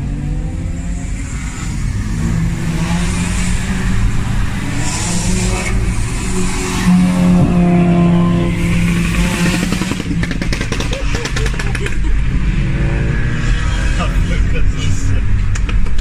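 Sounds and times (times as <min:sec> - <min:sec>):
cars driving off loud exhausts: 0:00.0 - 0:15.0
engine steady drone: 0:00.0 - 0:16.0.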